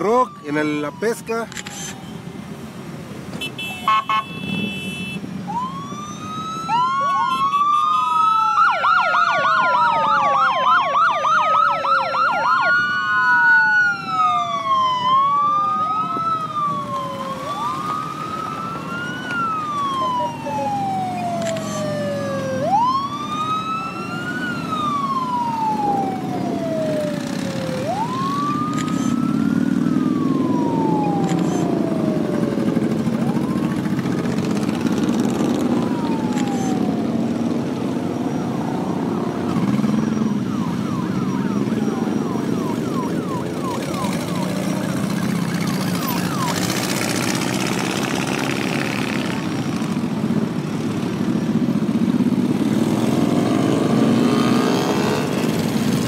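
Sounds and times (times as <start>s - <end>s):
police sirens wailing: 0.0s - 2.6s, 5.3s - 56.0s
motorcycle engines rumbling: 0.0s - 56.0s.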